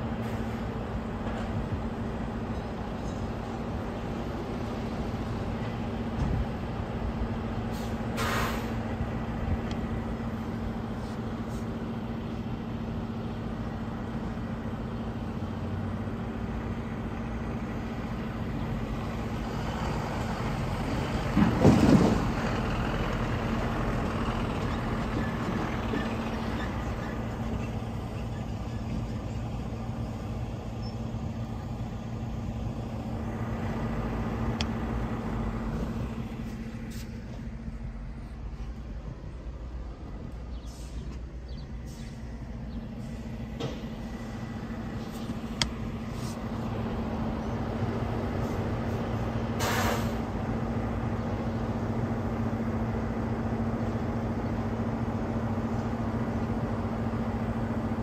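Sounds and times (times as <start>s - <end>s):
diesel trucks idling: 0.0s - 58.0s.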